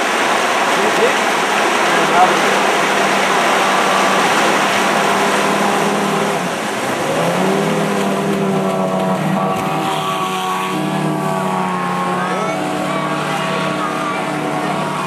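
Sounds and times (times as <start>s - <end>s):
outboard motor at high revs: 0.0s - 15.0s
whitewater rushing: 0.0s - 15.0s.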